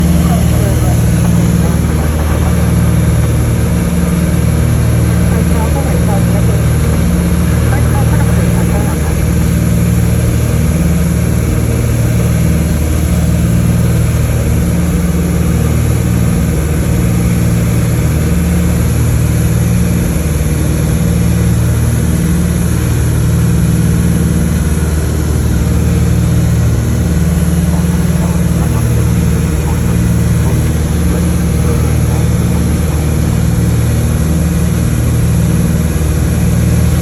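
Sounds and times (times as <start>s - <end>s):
twin propeller engines droning: 0.0s - 37.0s.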